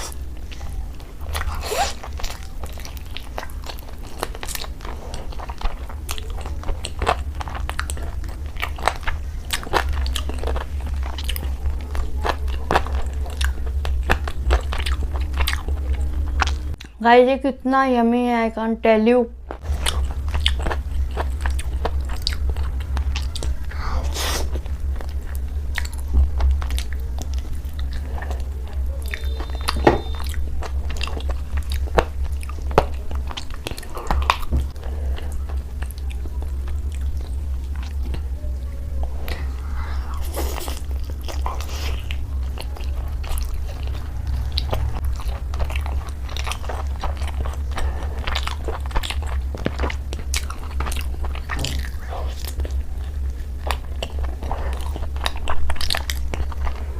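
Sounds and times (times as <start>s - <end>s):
person chewing food: 0.0s - 17.0s, 19.5s - 56.9s
steady low hum: 0.0s - 56.9s.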